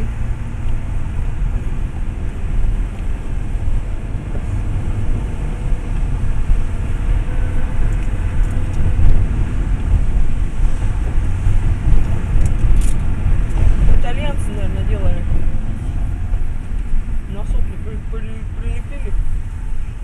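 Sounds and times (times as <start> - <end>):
car driving heard from inside: 0.0 - 20.0.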